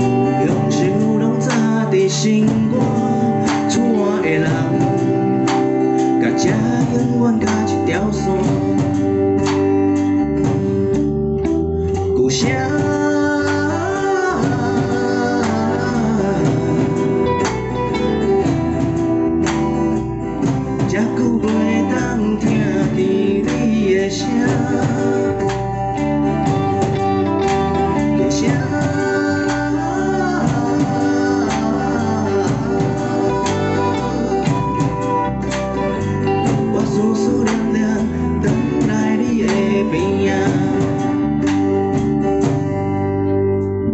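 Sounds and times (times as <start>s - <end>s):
live band playing: 0.0s - 43.9s
sliding lead melody: 0.0s - 43.9s.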